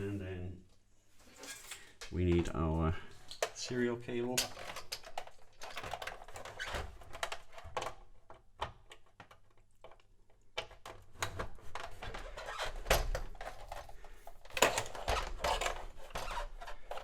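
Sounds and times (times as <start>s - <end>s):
cable plugs clicking and rustling: 1.3s - 17.0s.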